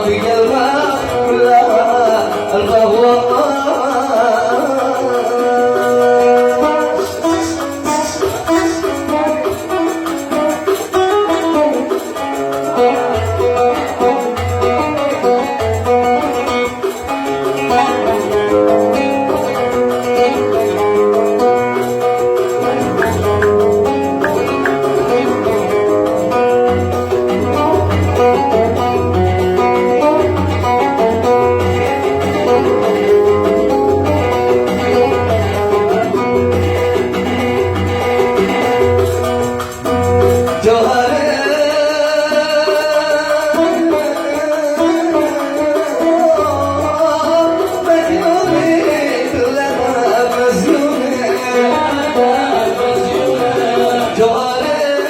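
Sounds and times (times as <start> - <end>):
oud plucked melody: 0.0 - 55.0.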